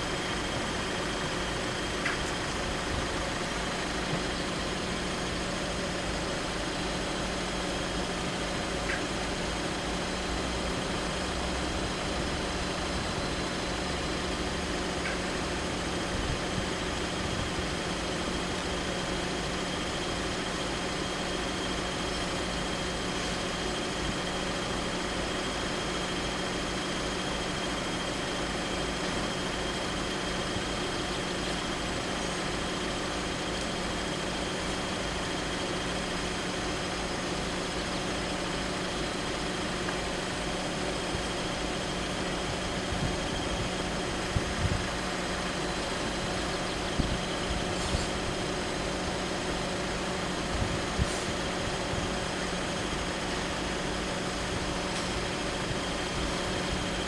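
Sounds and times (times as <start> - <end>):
vehicles idling hum: 0.0 - 57.0.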